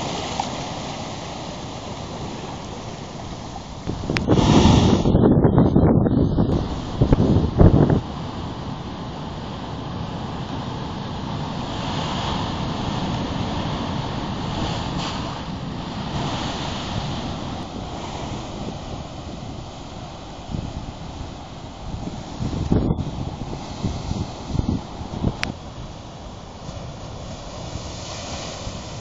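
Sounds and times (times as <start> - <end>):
surf breaking against rocks: 0.0 - 5.3, 6.5 - 29.0
wind buffeting microphone: 0.0 - 29.0.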